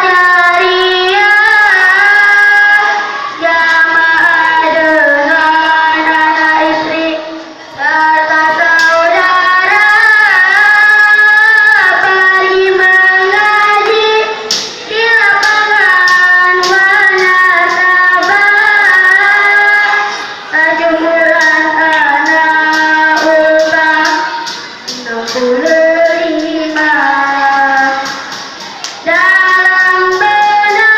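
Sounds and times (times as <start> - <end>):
child singing: 0.0 - 30.9.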